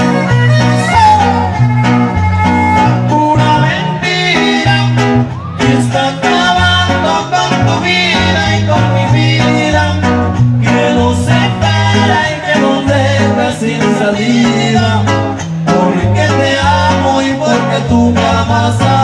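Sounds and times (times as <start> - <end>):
strummed guitars: 0.0 - 19.0.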